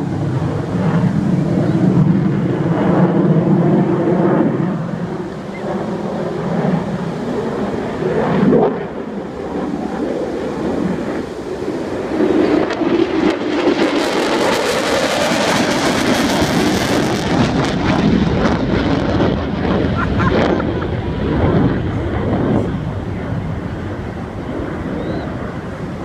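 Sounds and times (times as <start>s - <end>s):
aircraft engine rumble: 0.0s - 26.0s.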